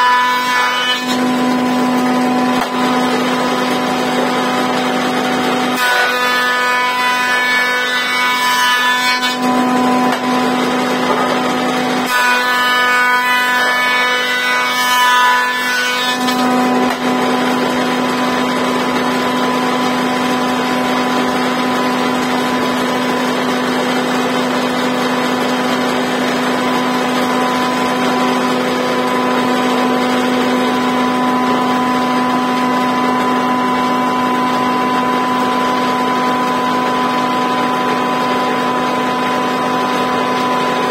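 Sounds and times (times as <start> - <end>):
planing a board: 0.0 - 40.9
woodworking machine humming: 0.0 - 40.9.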